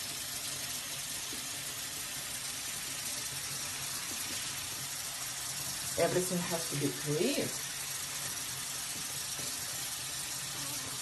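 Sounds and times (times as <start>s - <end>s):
running water hiss: 0.0s - 11.0s.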